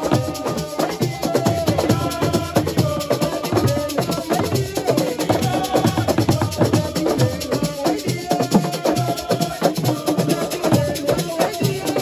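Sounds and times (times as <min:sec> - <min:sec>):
drums and shakers rhythm: 0:00.0 - 0:12.0
people singing: 0:00.0 - 0:12.0.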